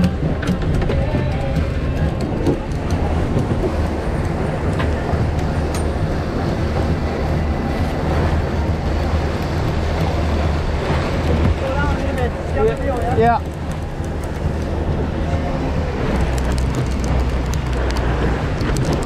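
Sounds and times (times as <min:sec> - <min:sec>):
boat engine humming: 0:00.0 - 0:19.0
wind and water rushing: 0:00.0 - 0:19.0.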